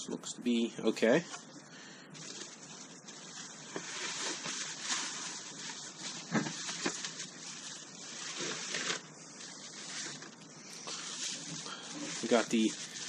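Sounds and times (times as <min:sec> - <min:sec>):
bubble wrap crinkling: 0:02.2 - 0:13.0.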